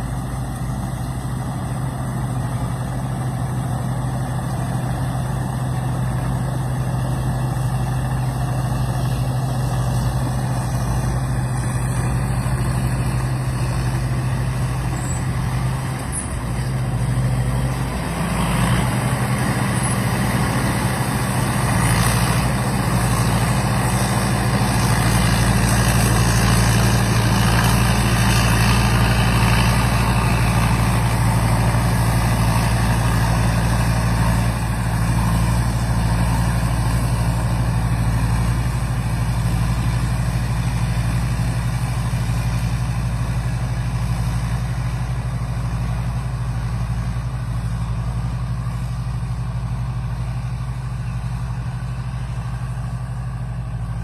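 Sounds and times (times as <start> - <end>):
combine harvester engine drone: 0.0 - 54.0
continuous mechanical rush: 0.0 - 54.0.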